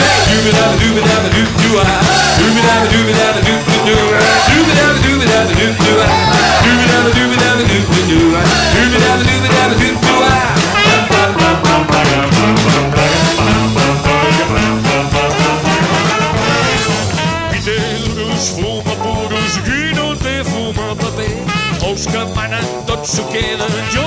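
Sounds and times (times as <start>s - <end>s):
upbeat band song: 0.0s - 24.0s.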